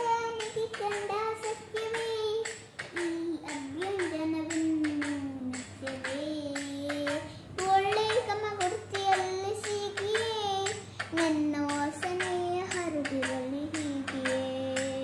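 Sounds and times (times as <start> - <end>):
girl singing: 0.0 - 15.0
sharp regular beats: 0.0 - 15.0.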